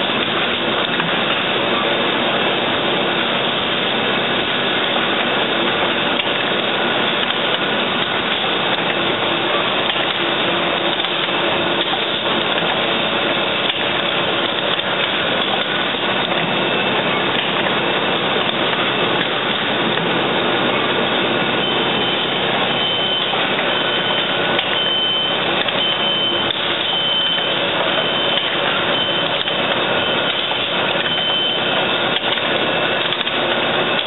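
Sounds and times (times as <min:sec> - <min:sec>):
machine running: 0:00.0 - 0:34.0.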